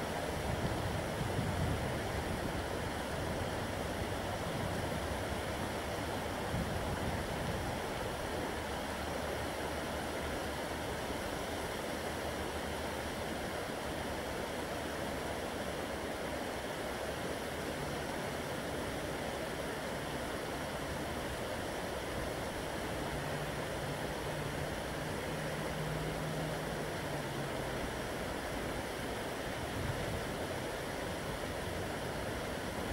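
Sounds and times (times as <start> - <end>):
river water rushing over stones: 0.0 - 32.9.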